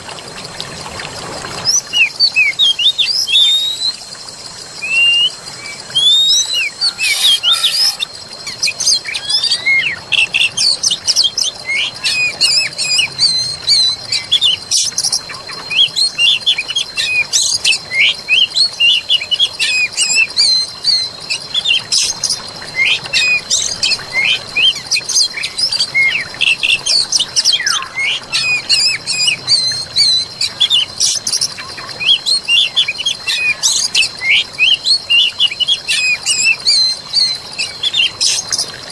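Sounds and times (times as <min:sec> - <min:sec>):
small birds chirping: 0:01.7 - 0:38.9.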